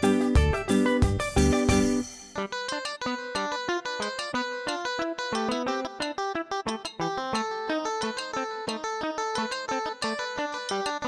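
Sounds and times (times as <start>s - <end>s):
plucked guitar-like notes: 0.0s - 11.0s.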